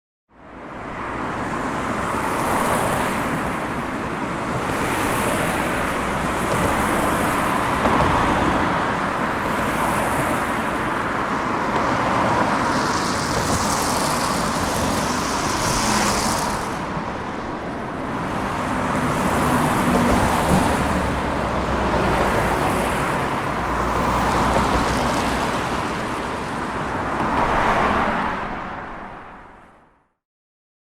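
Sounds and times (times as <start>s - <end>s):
cars passing: 0.5s - 29.6s.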